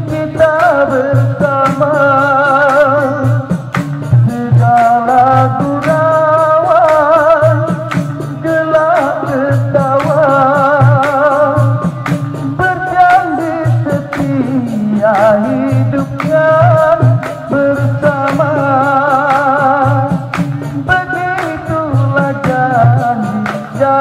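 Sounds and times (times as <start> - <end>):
man singing through a microphone: 0.0 - 24.0
percussion beat: 0.0 - 24.0.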